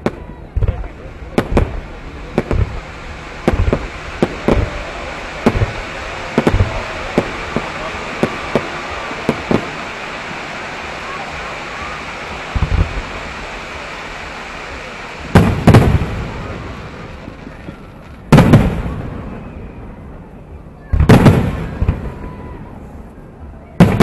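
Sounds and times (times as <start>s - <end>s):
distant firework bursts: 0.0s - 24.0s.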